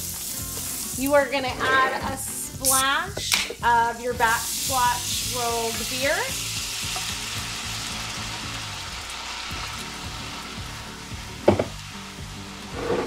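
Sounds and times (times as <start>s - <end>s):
beer sizzling in a pan: 0.0s - 13.0s.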